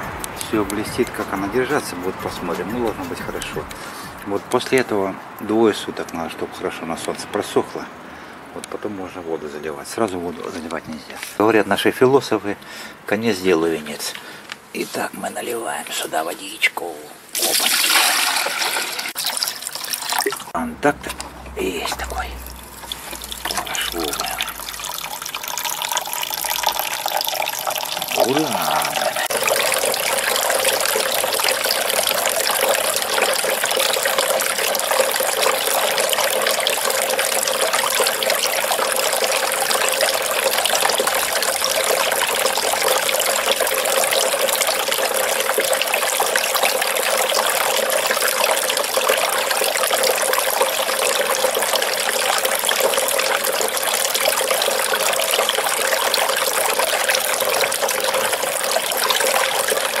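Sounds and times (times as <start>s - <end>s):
fountain water splashing into basin: 0.0s - 7.6s, 17.3s - 60.0s.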